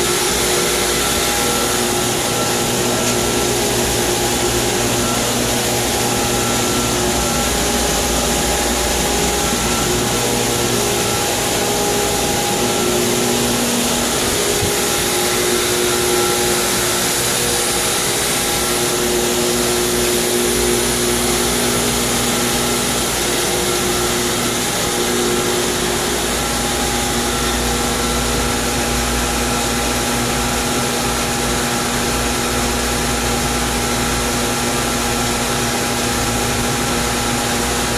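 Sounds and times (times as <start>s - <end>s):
pool pump running: 0.0s - 37.9s.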